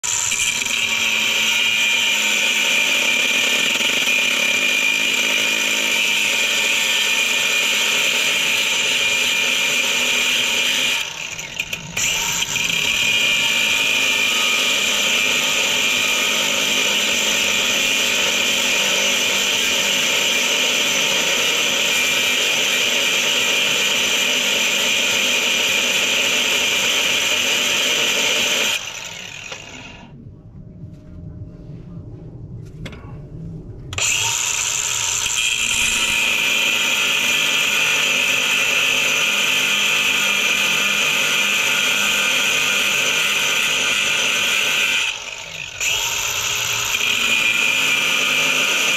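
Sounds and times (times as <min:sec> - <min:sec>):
cut-off disc grinding metal: 0:00.0 - 0:30.1, 0:33.9 - 0:48.9.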